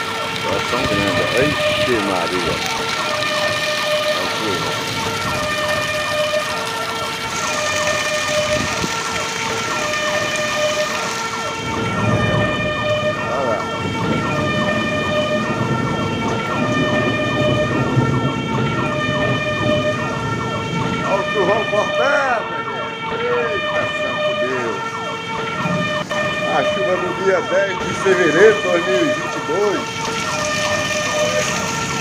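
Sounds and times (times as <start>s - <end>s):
two-tone siren: 0.0s - 32.0s.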